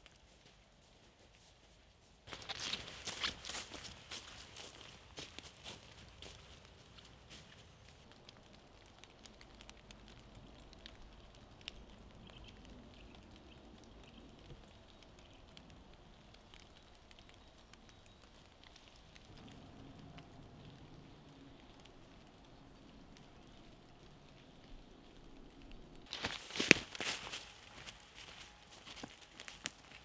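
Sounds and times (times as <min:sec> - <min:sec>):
light ticks and patter: 0:00.0 - 0:30.0
faint low rumble: 0:02.4 - 0:30.0.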